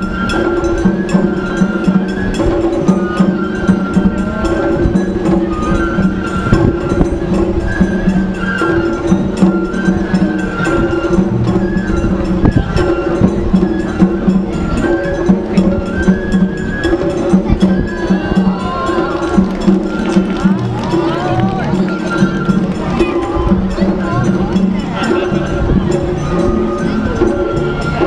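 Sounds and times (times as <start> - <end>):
parade music melody: 0.0 - 28.0
sharp clicking percussion: 0.0 - 28.0.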